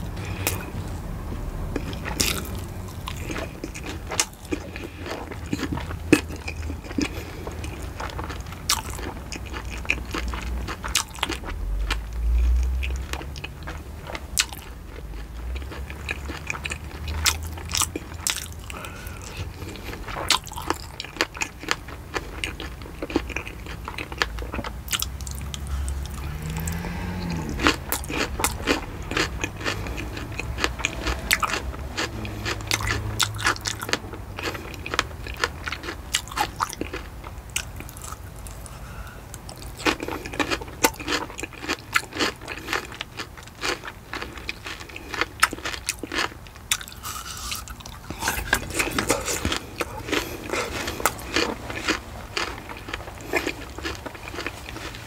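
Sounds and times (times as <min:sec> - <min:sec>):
chewing fruit crunches: 0:00.0 - 0:55.0.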